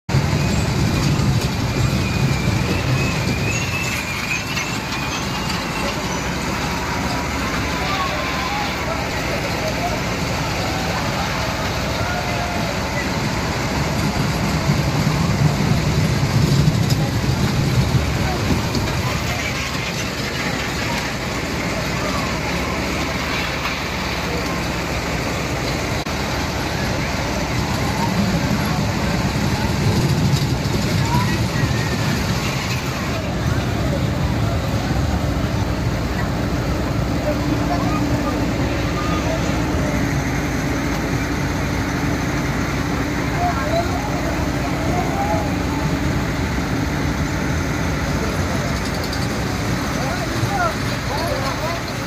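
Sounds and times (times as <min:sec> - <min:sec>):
roller-coaster rumbling on track: 0:00.0 - 0:52.0
murmur of voices: 0:02.6 - 0:52.0.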